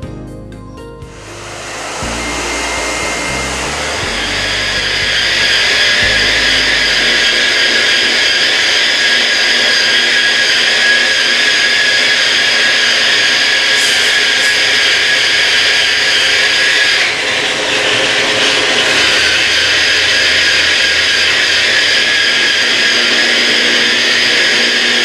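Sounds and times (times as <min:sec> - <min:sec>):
grinder whining on stone: 0:01.2 - 0:25.0.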